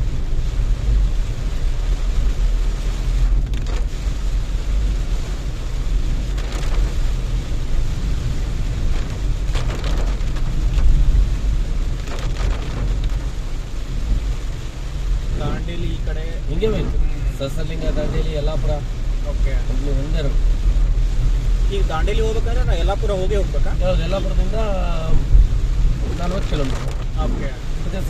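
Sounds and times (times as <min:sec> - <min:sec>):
heavy rain on a car: 0:00.0 - 0:28.0
low road rumble: 0:00.0 - 0:28.0.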